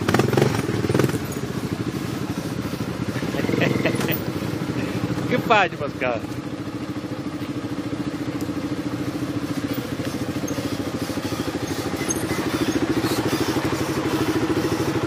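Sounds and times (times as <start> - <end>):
quad bike engines idling: 0.0 - 15.0.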